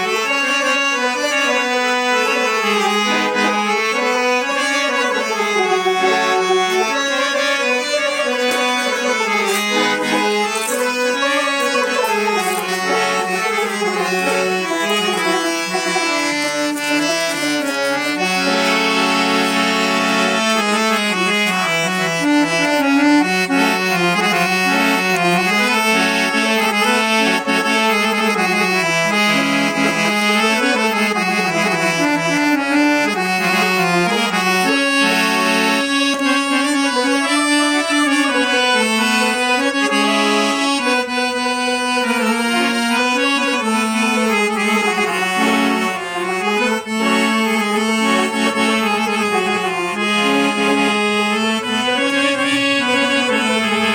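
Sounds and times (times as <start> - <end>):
harmonium and keyboard playing: 0.0 - 53.9.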